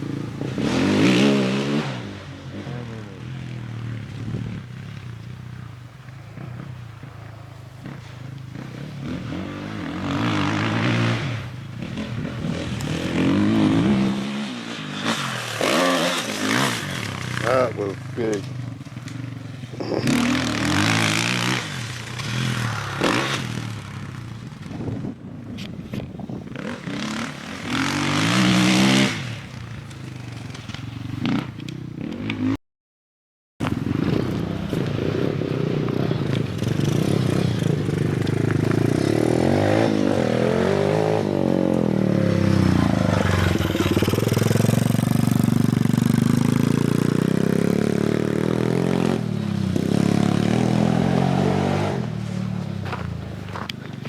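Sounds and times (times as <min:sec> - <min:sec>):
motorcycle engines revving: 0:00.0 - 0:32.6, 0:33.6 - 0:54.0.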